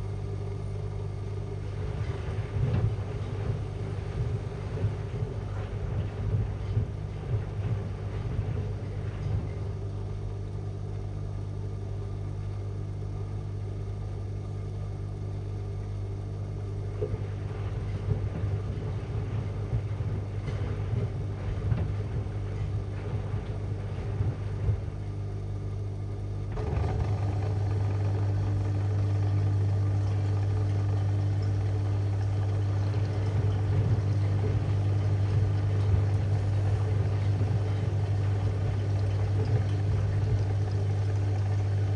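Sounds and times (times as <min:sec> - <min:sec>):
washing machine humming: 0:00.0 - 0:41.9.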